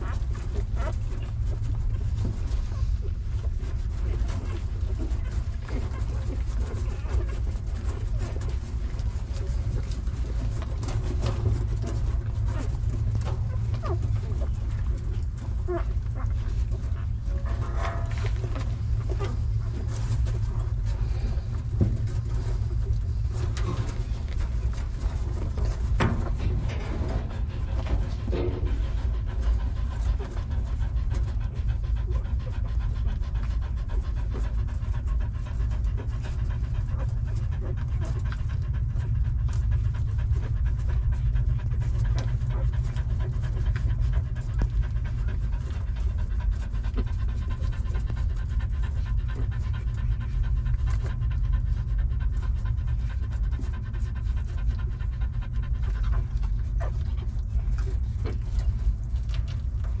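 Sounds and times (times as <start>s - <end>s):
dog panting: 0.0s - 60.0s
low rumble: 0.0s - 60.0s.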